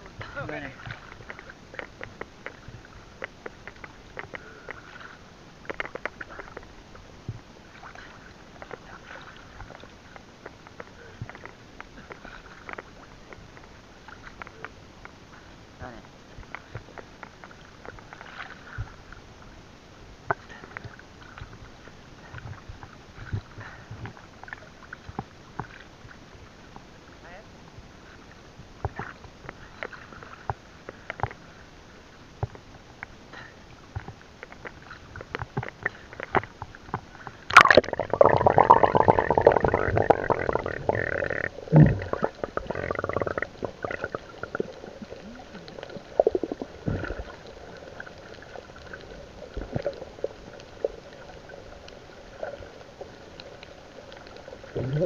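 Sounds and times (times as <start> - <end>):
muffled underwater sound: 0.0 - 19.5, 20.2 - 55.0
rush of bubbles and churning water: 0.0 - 55.0.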